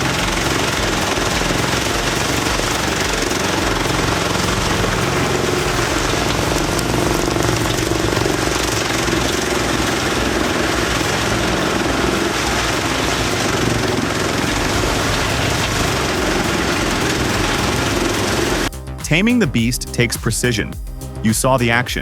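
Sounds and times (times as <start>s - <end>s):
wood chipper running: 0.0s - 18.7s.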